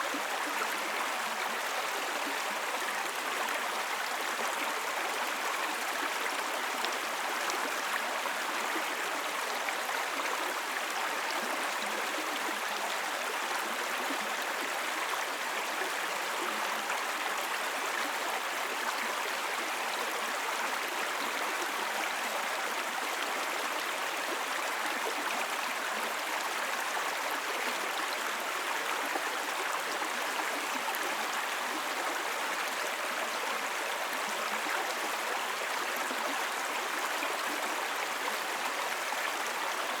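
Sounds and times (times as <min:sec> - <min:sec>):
brook babbling over stones: 0:00.0 - 0:40.0.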